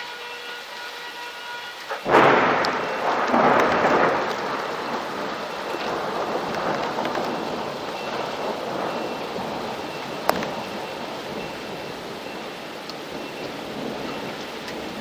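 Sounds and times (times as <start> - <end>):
steady rain: 0.0 - 15.0
thunder crack and rumble: 1.9 - 15.0.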